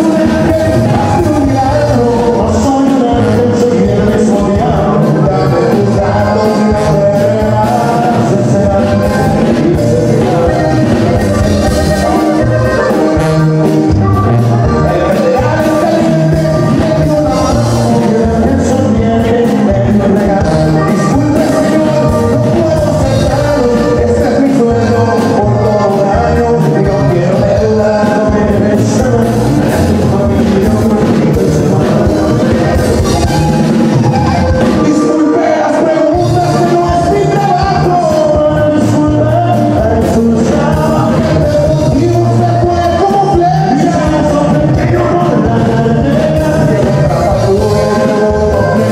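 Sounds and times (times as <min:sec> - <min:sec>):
button accordion: 0:00.0 - 0:48.9
drums: 0:00.0 - 0:48.9
guitar: 0:00.0 - 0:48.9
man singing into microphone: 0:00.0 - 0:48.9.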